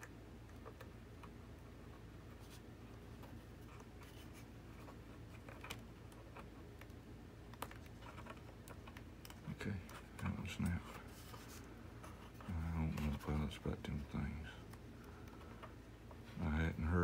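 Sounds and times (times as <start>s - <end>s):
small plastic clicks and scratches: 0.0s - 16.2s
faint steady low hum: 0.0s - 17.0s.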